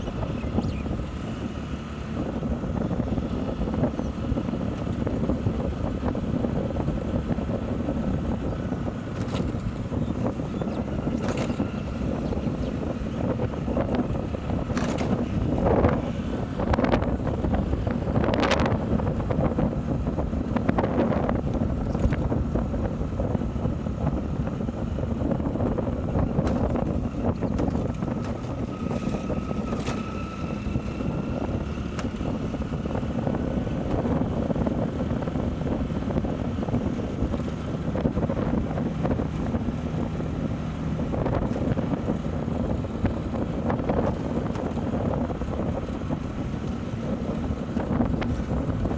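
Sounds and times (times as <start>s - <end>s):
motorcycle engine running: 0.0s - 48.9s
wind buffeting microphone: 0.0s - 48.9s.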